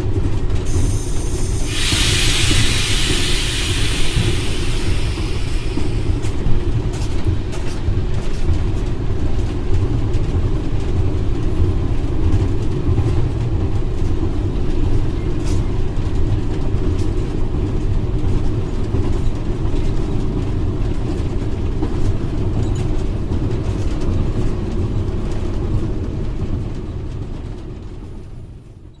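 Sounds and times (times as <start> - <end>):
locomotive rumbling on rails: 0.0 - 29.0.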